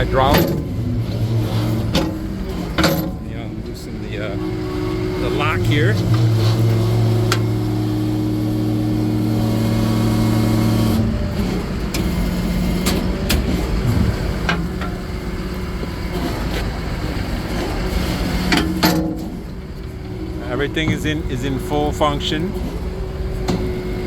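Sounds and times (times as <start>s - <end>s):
diesel engine idling: 0.0s - 24.0s
hydraulic system humming: 0.0s - 24.0s.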